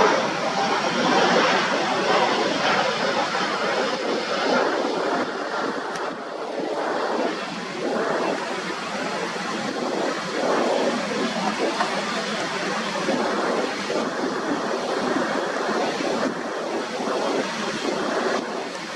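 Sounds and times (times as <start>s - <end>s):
jet engines rushing: 0.0s - 18.9s.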